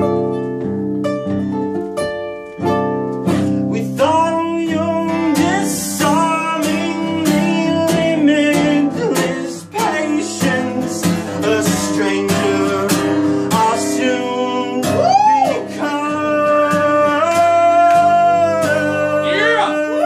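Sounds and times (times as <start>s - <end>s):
acoustic guitar: 0.0s - 20.0s
man singing: 3.6s - 20.0s.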